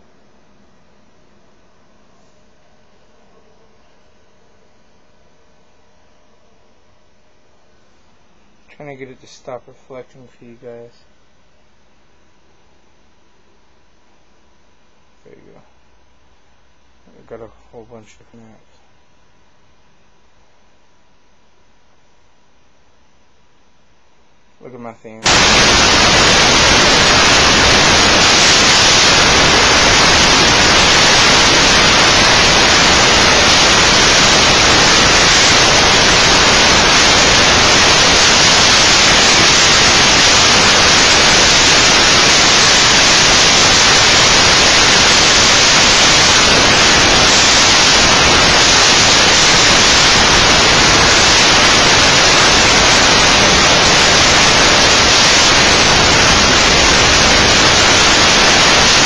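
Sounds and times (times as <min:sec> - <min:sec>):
loud static hiss: 0:00.0 - 0:59.0.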